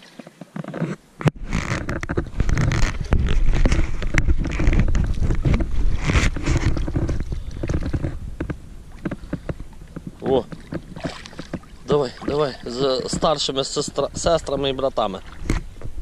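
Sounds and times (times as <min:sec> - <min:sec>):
water sloshing and splashing: 0:00.0 - 0:00.8, 0:01.4 - 0:16.0
wind buffeting microphone: 0:01.4 - 0:16.0.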